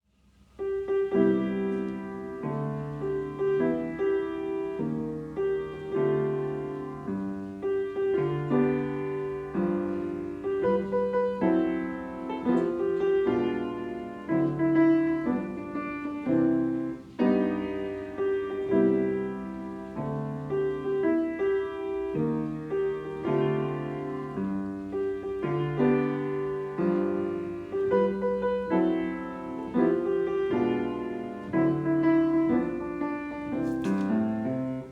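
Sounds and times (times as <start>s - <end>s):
piano chords: 0.1s - 34.9s.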